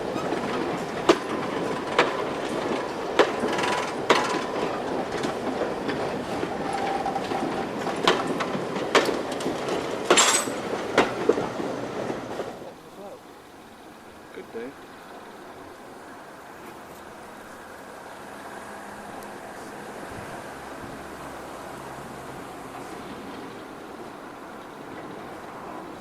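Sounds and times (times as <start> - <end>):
train wheels clicking over rail joints: 0.0 - 26.0.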